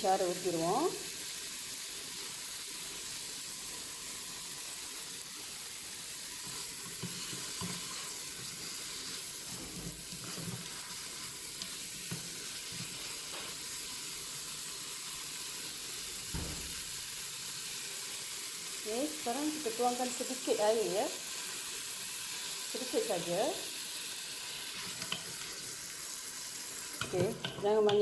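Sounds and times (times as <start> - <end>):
meat and spices sizzling in a pot: 0.0 - 28.0.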